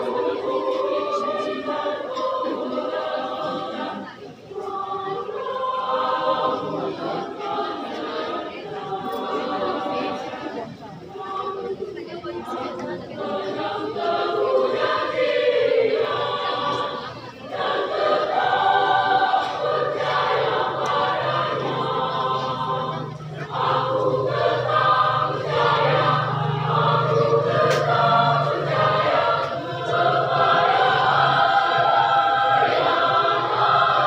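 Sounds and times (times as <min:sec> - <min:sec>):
women's choir singing: 0:00.0 - 0:34.0.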